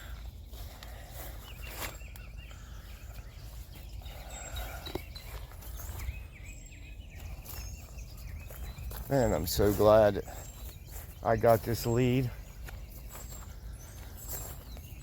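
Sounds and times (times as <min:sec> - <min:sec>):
bird chirping phrase: 0:00.0 - 0:15.0
birds singing: 0:00.0 - 0:15.0.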